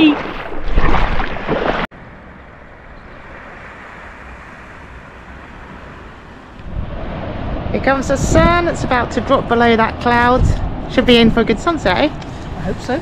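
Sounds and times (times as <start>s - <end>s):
sea at the shore: 0.0s - 13.0s
wind: 0.0s - 13.0s.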